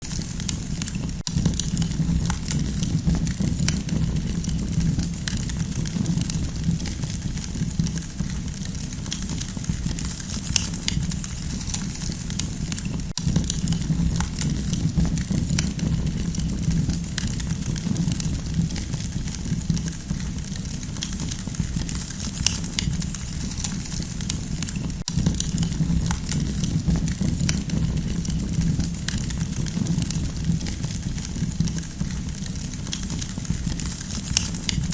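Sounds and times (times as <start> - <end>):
campfire crackling: 0.0 - 34.9
low rush of burning fire: 0.0 - 34.9
sharp pops and snaps: 0.0 - 34.9.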